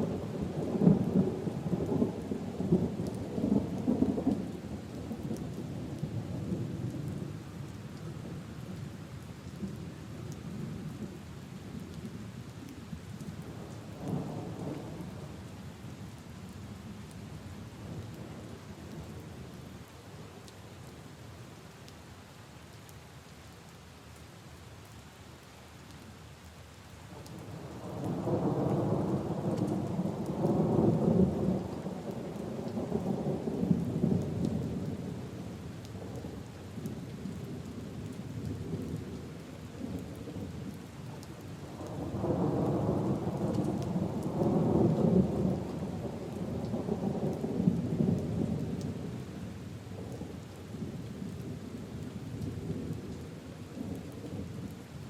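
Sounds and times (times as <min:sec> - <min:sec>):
rain falling on puddles and leaves: 0:00.0 - 0:55.0.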